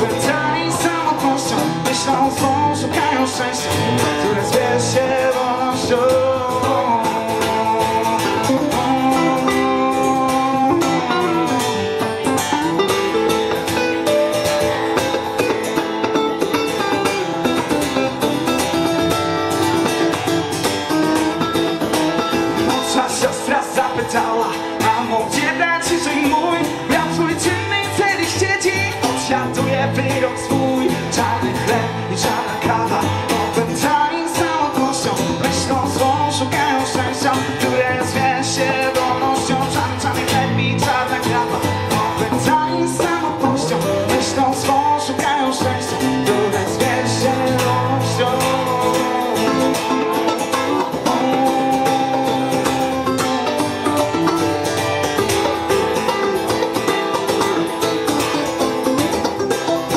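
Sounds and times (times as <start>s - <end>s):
acoustic guitar strumming chords: 0.0s - 59.9s
electric guitar lead lines: 0.0s - 59.9s.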